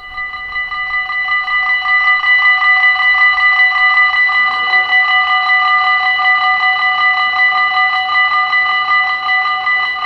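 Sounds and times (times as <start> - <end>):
level-crossing warning bell ringing: 0.0 - 10.0.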